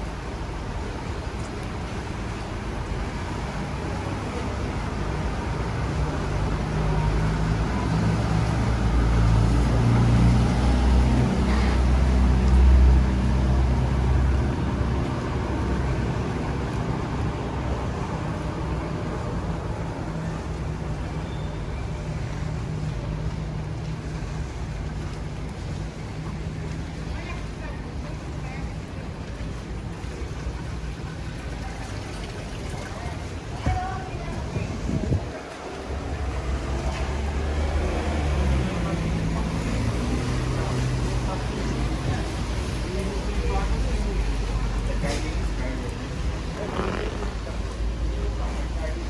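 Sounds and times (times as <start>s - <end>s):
wet traffic: 0.0s - 49.0s
vehicle engine rumble passing: 2.0s - 28.3s, 34.2s - 49.0s.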